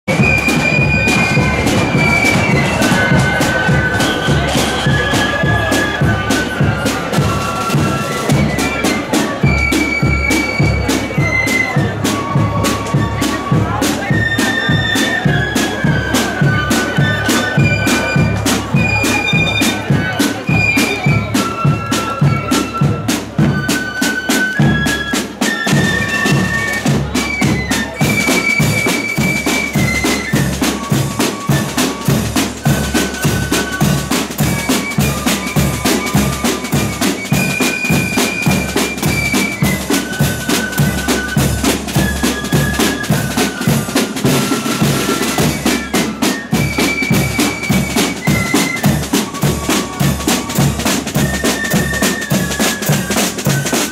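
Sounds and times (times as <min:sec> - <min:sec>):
flutes playing melody: 0:00.1 - 0:53.9
marching drums: 0:00.1 - 0:53.9.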